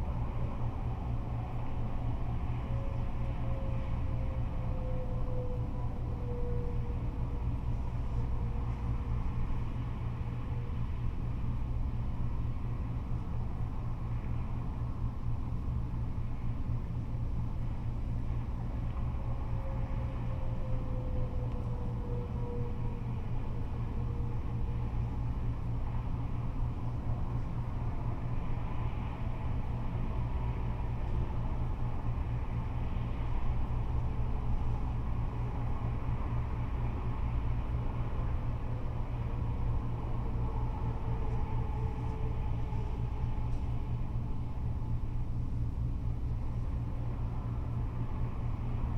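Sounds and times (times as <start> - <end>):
faint whine falling in pitch: 0.0 - 16.6, 18.0 - 48.9
freeway traffic rumble: 0.0 - 48.9.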